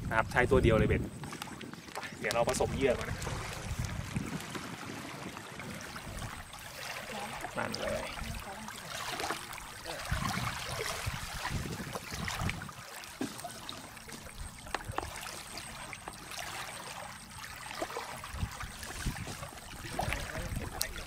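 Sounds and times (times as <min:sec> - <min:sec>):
wet squishing and sloshing: 0:03.0 - 0:21.0.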